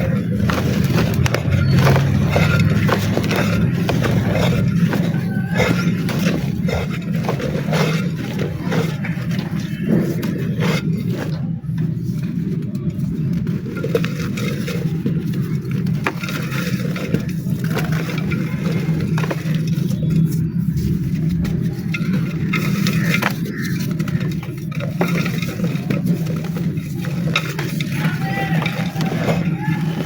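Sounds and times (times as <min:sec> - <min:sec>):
dry mud crunching by hand: 0:00.0 - 0:30.0
low hum: 0:00.0 - 0:30.0.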